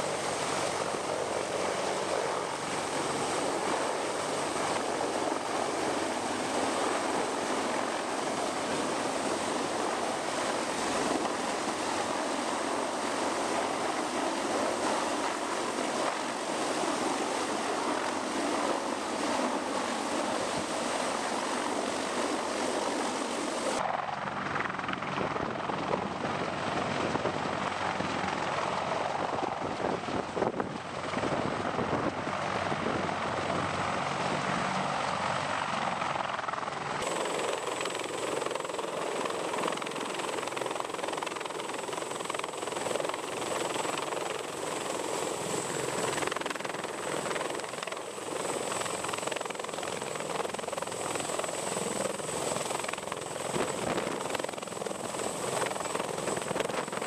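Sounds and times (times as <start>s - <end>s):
helicopter engines and rotors: 0.0s - 57.0s.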